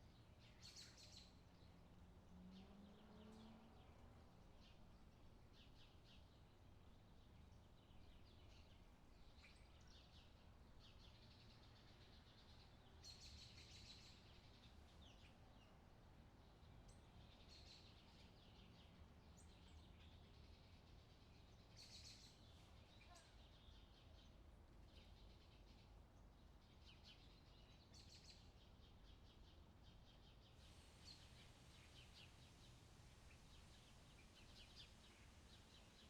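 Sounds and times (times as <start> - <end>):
faint birdsong chirps: 0.0 - 36.0.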